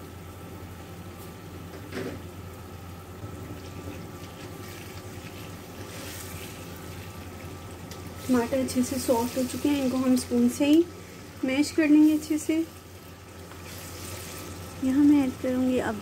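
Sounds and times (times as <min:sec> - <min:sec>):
masala sizzling in oil: 0:00.0 - 0:16.0
steady low hum: 0:00.0 - 0:16.0.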